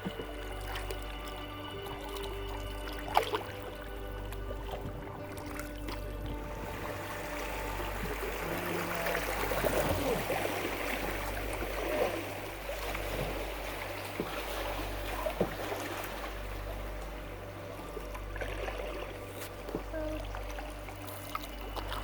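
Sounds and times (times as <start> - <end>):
water gurgling and trickling: 0.0 - 22.0.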